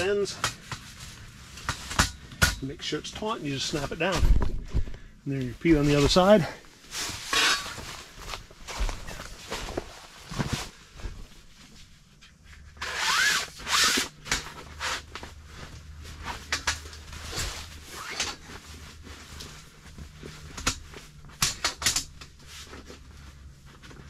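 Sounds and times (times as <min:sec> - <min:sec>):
fabric rustling against frame: 0:00.0 - 0:02.4, 0:03.0 - 0:24.0.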